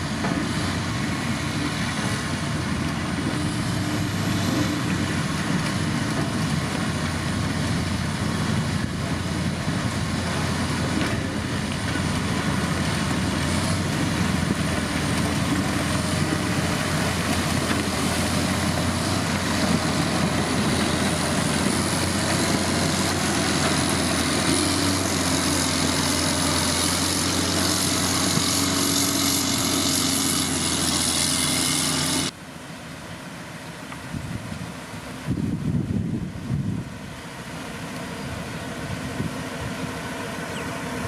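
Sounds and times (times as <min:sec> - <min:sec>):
heavy machine engine running: 0:00.0 - 0:32.4, 0:34.9 - 0:41.0.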